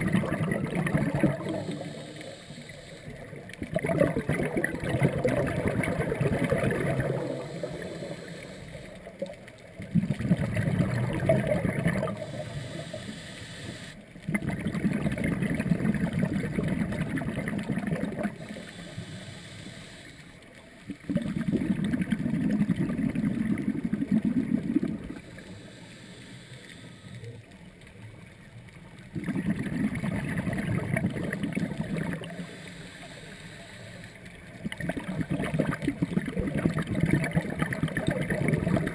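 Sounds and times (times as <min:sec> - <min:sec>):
underwater bubbles rushing: 0:00.0 - 0:13.0, 0:14.1 - 0:19.2, 0:20.4 - 0:25.8, 0:26.7 - 0:38.9.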